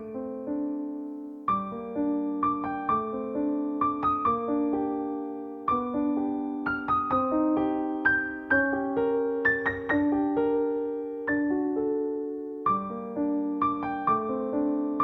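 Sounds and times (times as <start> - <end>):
soft slow piano music: 0.0 - 15.0.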